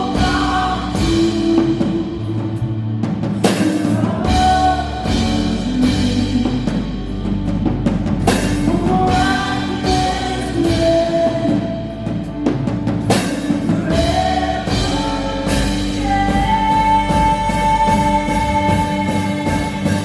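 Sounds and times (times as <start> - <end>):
drum kit hits: 0.0 - 20.0
live band playing: 0.0 - 20.0.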